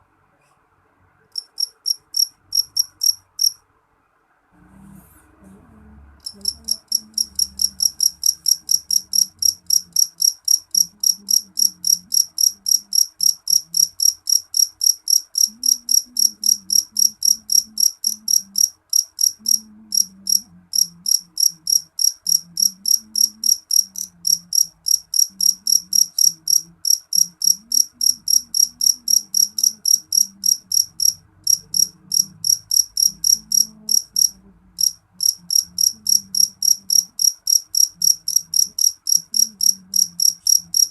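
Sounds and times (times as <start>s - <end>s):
cricket chirping: 1.3s - 3.6s, 6.2s - 40.9s.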